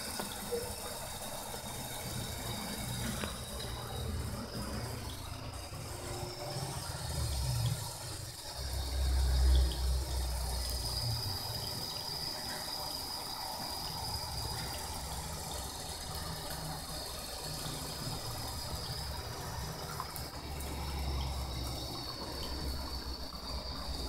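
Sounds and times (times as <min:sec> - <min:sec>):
tap water running into sink: 0:00.0 - 0:24.0.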